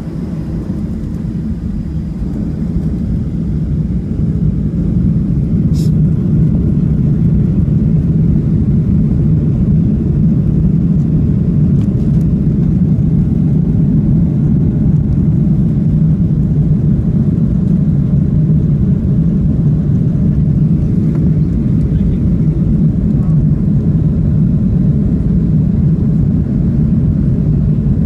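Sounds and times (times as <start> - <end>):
airplane cabin rumble while taxiing: 0.0 - 28.0.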